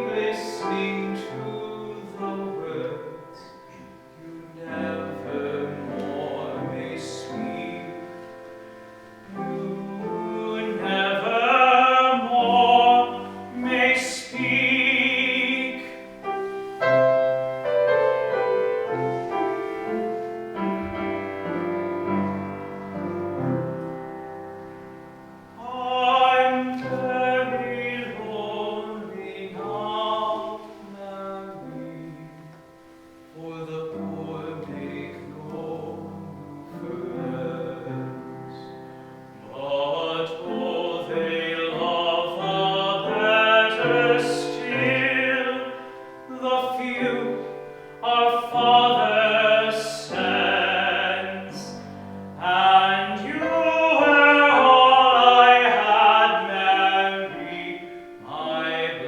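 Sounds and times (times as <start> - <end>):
man singing operatic ballad: 0.0 - 23.9, 25.4 - 59.0
piano accompaniment: 0.0 - 59.0.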